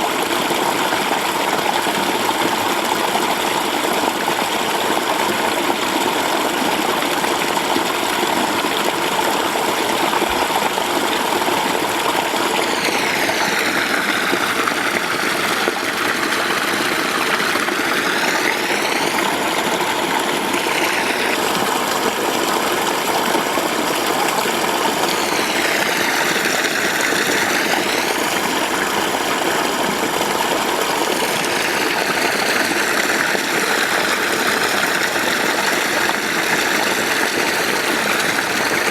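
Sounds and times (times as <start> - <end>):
mountain stream rushing: 7.3 - 38.9.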